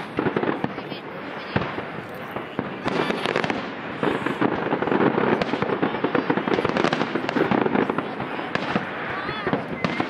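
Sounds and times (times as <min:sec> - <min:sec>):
fireworks popping and banging: 0:00.0 - 0:10.0.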